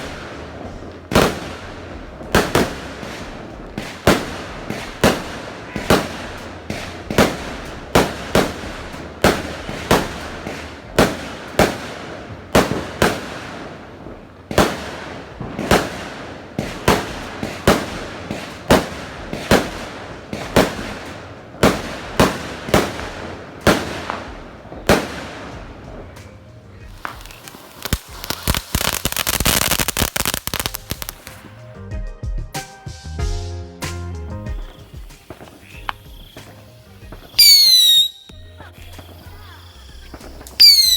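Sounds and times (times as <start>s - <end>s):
fireworks bangs: 0.0s - 31.8s, 33.8s - 40.9s.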